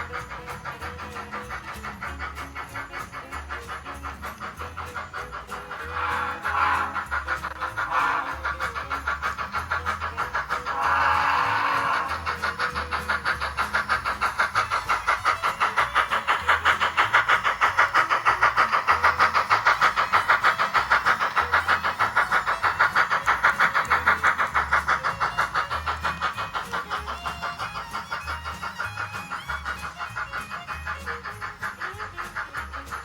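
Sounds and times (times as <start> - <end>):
model train wheels clicking on rails: 0.0 - 33.0.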